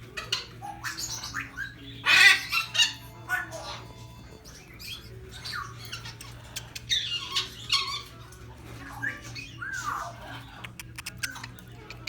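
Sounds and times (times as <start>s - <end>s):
parrots squawking: 0.0s - 12.0s.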